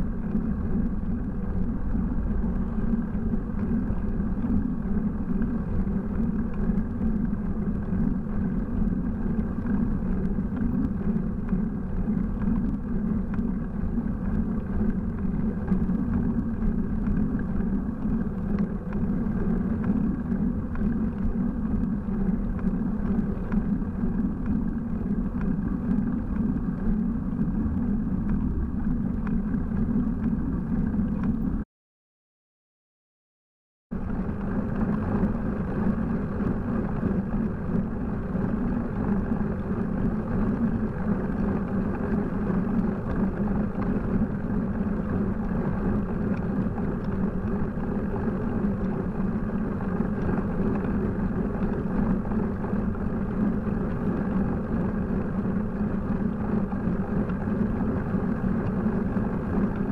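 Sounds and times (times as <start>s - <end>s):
wind on microphone: 0.0s - 31.6s, 33.9s - 59.9s.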